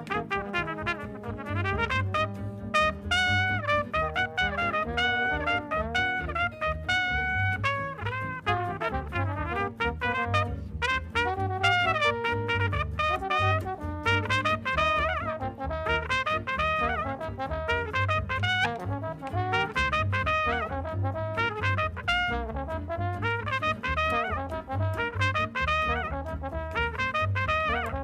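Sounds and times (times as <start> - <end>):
jazz band playing blues: 0.0 - 28.0
trumpet and trombone melody: 0.0 - 28.0.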